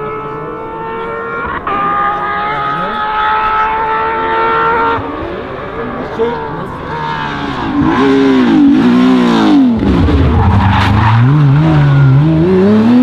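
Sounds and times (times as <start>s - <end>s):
racing car engine at full throttle: 0.0s - 13.0s.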